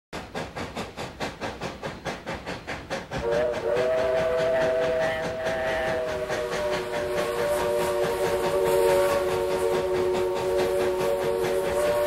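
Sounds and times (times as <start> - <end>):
steam locomotive chuffing: 0.2 - 12.0.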